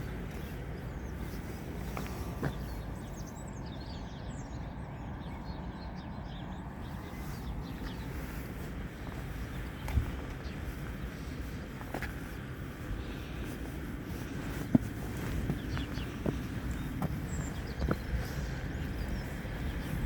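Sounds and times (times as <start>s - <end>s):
small birds chirping: 0.0s - 20.0s
wind rumbling on microphone: 0.0s - 20.0s.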